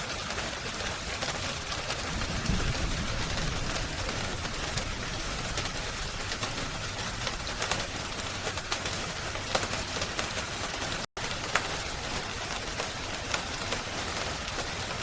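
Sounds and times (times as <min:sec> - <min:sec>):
rain hissing: 0:00.0 - 0:15.0
wood fire crackling: 0:01.0 - 0:15.0.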